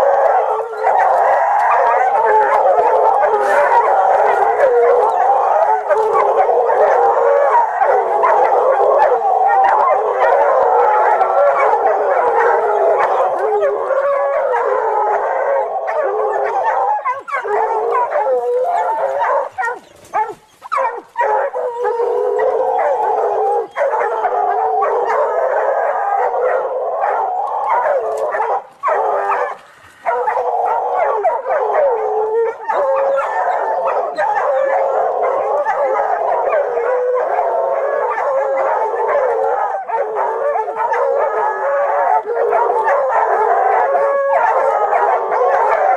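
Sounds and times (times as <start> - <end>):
dogs howling: 0.0 - 45.9.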